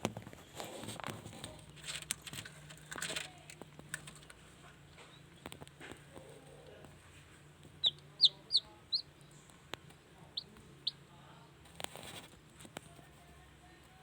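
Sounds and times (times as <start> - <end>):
incubator hum: 0.0 - 12.6.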